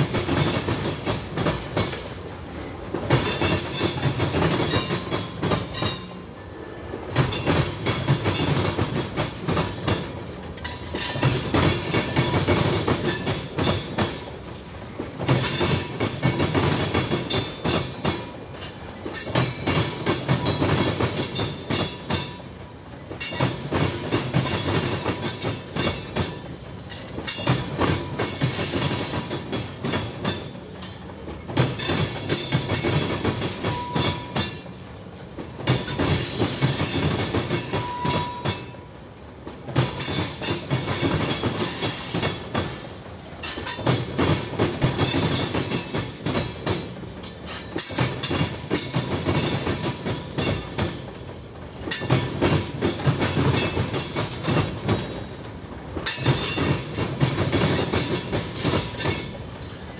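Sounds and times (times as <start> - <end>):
train wheels clattering over crossing: 0.0 - 59.9.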